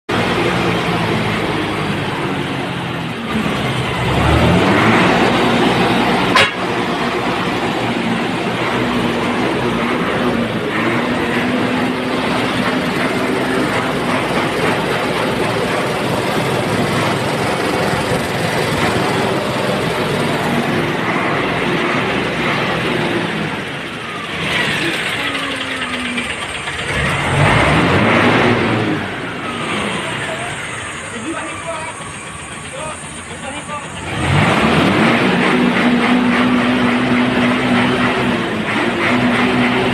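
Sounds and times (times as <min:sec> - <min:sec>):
traffic engines running: 0:00.0 - 0:39.9
vehicles passing: 0:00.1 - 0:39.9.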